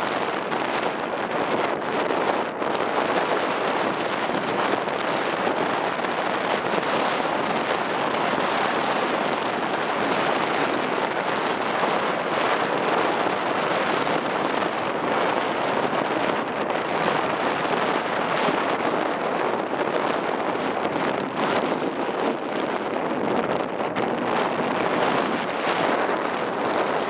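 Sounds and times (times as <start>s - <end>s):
sea wash: 0.0s - 27.0s
ship engine running: 0.0s - 27.0s
wind on microphone: 0.0s - 27.0s.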